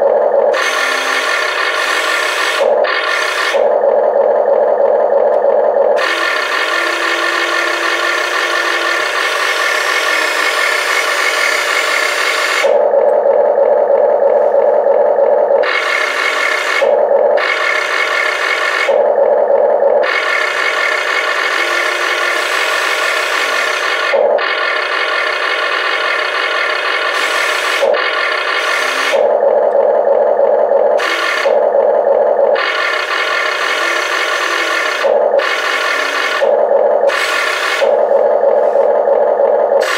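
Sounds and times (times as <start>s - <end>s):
electric motors whirring: 0.0s - 39.9s.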